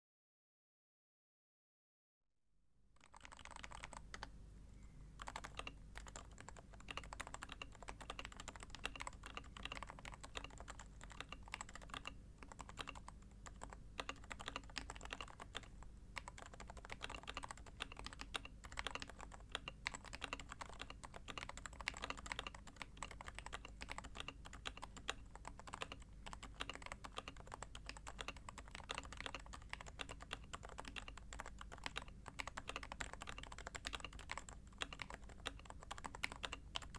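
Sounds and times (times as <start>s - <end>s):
soft keyboard typing: 3.0s - 4.4s, 5.2s - 36.9s.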